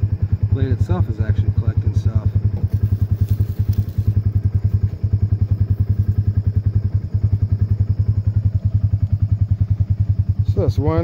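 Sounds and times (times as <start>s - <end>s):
utility vehicle engine idling: 0.0s - 11.0s.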